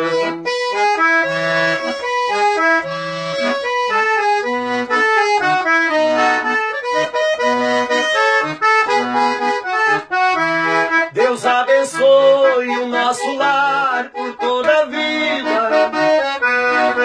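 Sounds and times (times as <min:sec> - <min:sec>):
piano accordion playing: 0:00.0 - 0:17.0.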